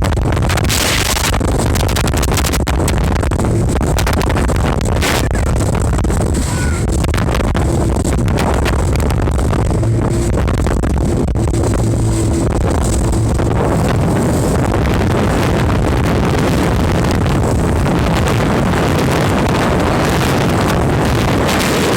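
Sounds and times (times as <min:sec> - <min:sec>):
speedboat engine running: 0:00.0 - 0:21.9
wind buffeting microphone: 0:00.0 - 0:21.9.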